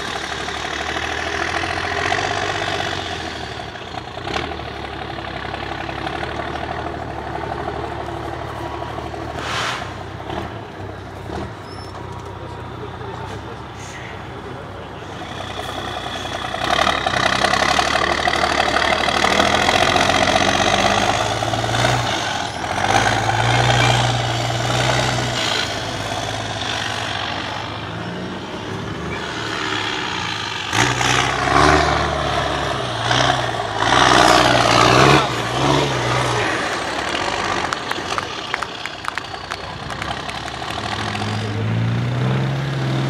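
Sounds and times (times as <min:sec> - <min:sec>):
diesel truck engine under load: 0:00.0 - 0:43.0.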